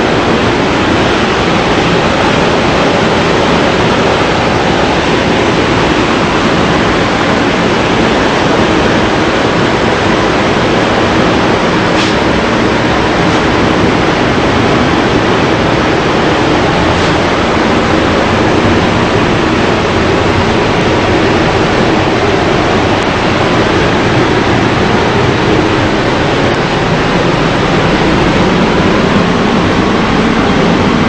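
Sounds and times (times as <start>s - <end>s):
loud rushing noise: 0.0s - 31.0s.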